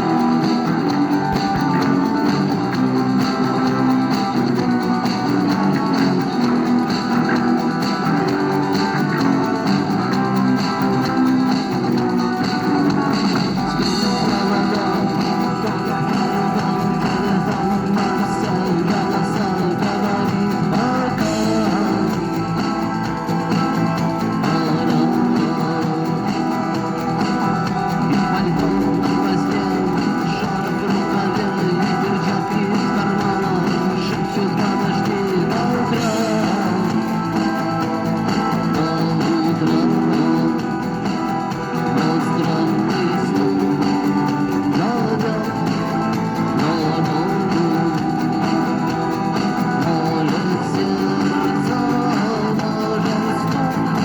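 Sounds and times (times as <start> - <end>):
rock guitar music: 0.0 - 54.0.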